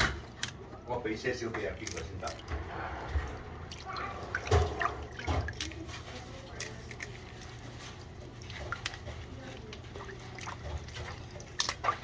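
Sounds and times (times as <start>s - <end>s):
water dripping and splashing: 1.4s - 12.0s.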